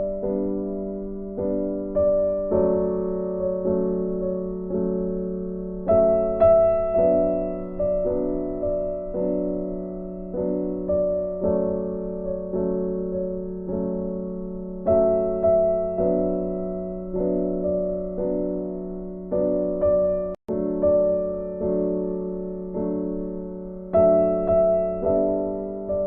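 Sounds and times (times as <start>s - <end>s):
gentle piano chords: 0.0s - 26.0s.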